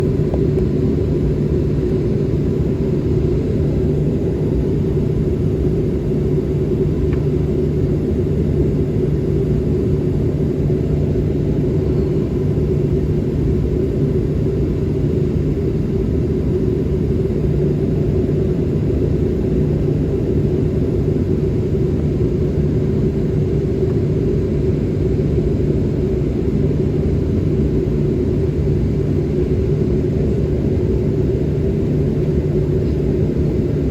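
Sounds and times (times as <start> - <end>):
jet engine rumble in cabin: 0.0 - 33.9.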